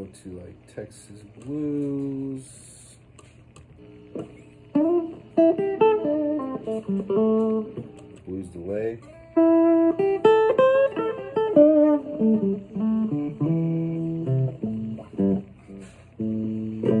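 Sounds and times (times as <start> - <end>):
electric guitar blues licks: 3.2 - 17.0.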